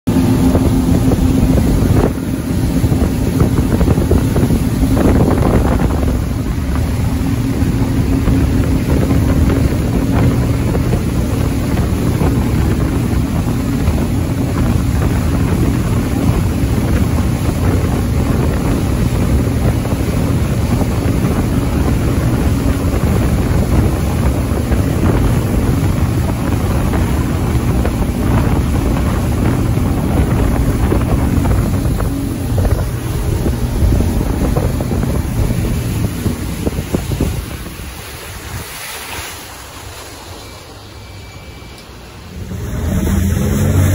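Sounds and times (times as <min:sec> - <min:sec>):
rush of boat wake: 0:00.0 - 0:43.9
speedboat engine hum: 0:00.0 - 0:43.9
wind buffeting microphone: 0:00.1 - 0:43.9.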